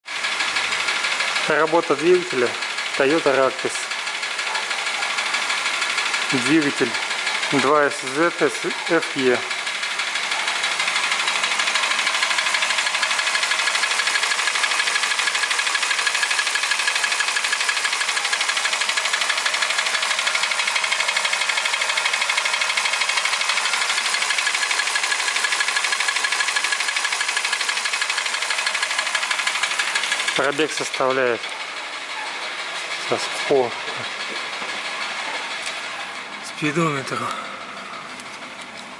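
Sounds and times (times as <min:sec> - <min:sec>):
engine knocking tick: 0:00.1 - 0:38.9
petrol engine running: 0:00.1 - 0:38.9.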